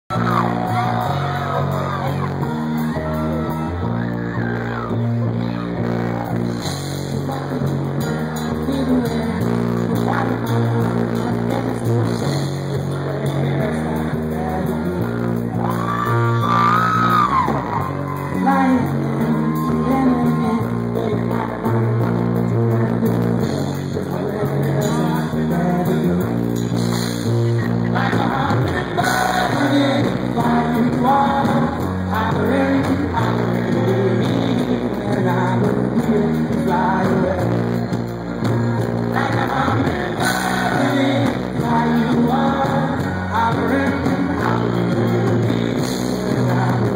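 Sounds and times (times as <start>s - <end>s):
live rock band music: 0.1s - 46.9s
man singing: 0.1s - 46.9s.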